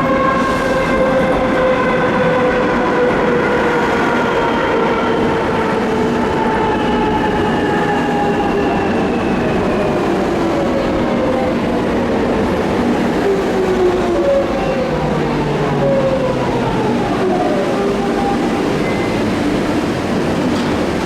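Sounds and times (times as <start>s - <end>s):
train rolling noise: 0.0s - 21.0s.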